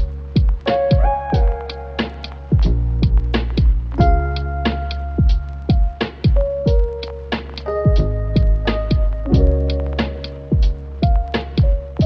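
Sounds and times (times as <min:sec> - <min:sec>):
electronic music with a beat: 0:00.0 - 0:12.0.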